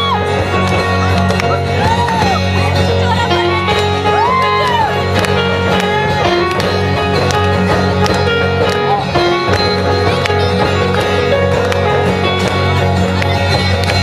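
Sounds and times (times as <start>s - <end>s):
guitars and keyboard: 0.0s - 14.0s.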